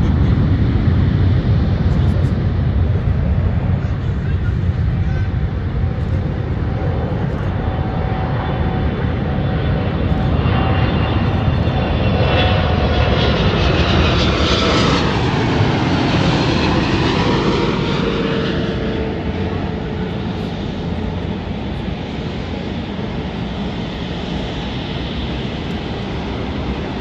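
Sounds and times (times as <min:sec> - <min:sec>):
jet airliner flying past: 0:00.0 - 0:27.0.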